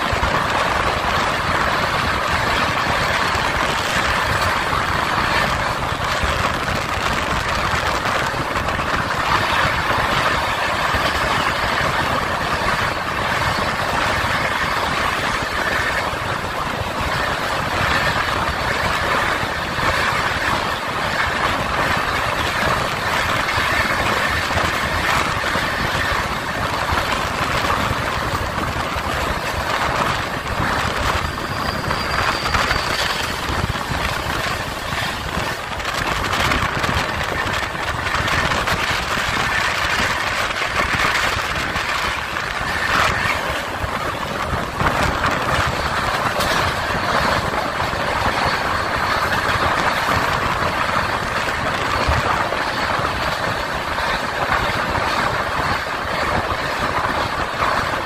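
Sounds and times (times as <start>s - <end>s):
rushing air: 0.0s - 58.0s
train wheels on rails: 0.0s - 58.0s.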